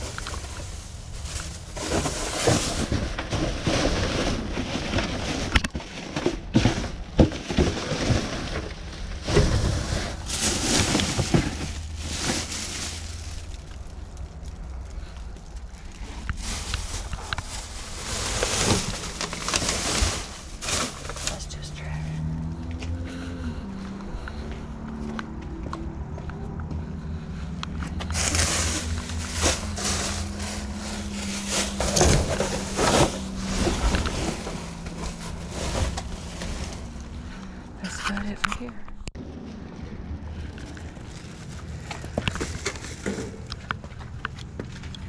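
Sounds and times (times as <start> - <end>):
plastic trash bags rustling: 0.0 - 22.5, 27.8 - 38.0, 39.2 - 44.2.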